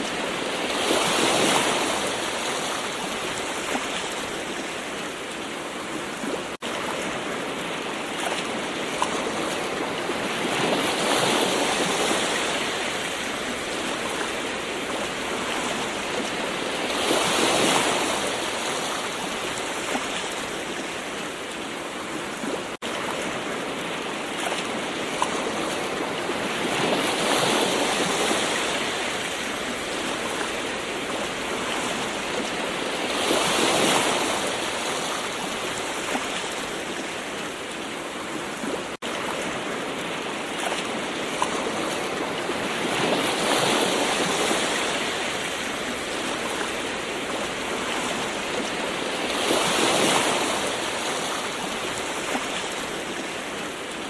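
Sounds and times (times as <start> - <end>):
gentle ocean waves washing: 0.0 - 54.0.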